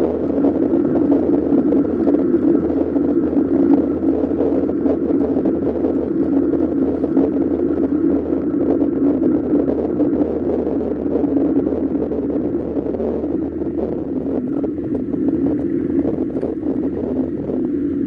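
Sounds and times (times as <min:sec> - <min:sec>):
road rumble: 0:00.0 - 0:18.0
wind noise on microphone: 0:00.0 - 0:18.0.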